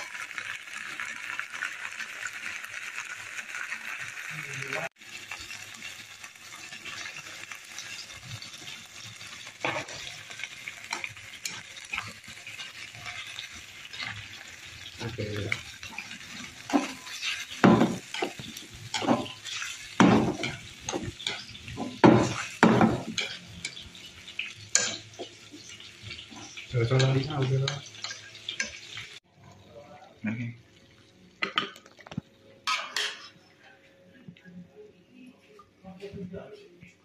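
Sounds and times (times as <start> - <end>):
food sizzling in a frying pan: 0.0 - 34.1.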